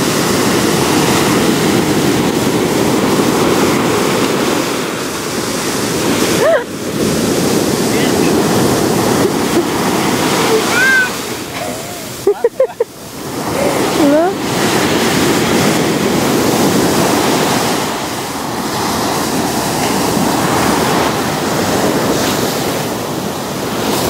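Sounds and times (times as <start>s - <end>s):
ocean waves breaking on beach: 0.0s - 24.0s.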